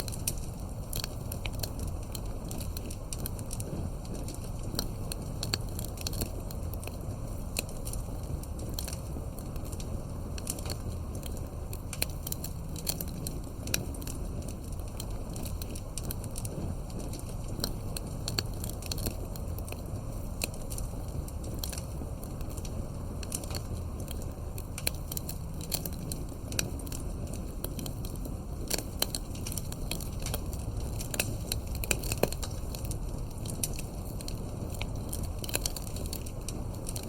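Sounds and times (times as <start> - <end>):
fireplace crackling: 0.0 - 37.0
low steady rumble: 0.0 - 37.0.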